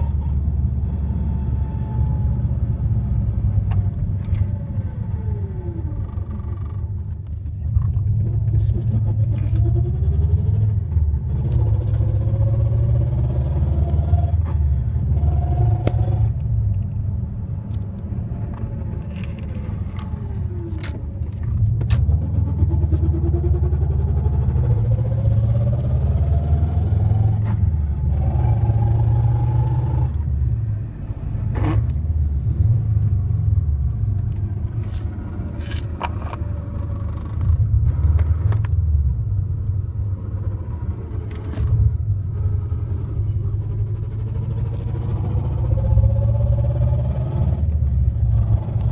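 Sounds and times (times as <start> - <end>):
car engine rumble: 0.0 - 48.9.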